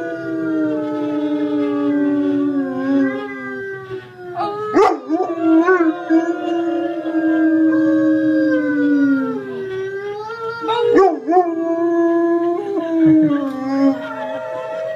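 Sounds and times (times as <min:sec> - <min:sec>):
dog howling: 0:00.0 - 0:14.9.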